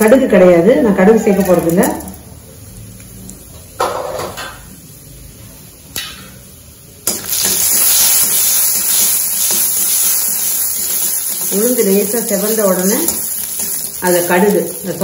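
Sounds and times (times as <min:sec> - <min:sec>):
lentils sizzling in hot oil: 0:01.1 - 0:15.0.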